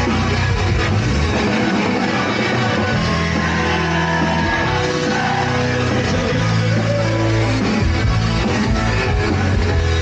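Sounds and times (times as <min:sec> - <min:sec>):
electric guitar: 0:00.0 - 0:10.0
live rock band: 0:00.0 - 0:10.0.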